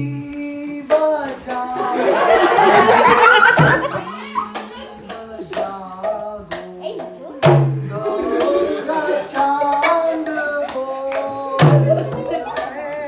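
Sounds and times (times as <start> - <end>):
music with singing: 0.0 - 13.0.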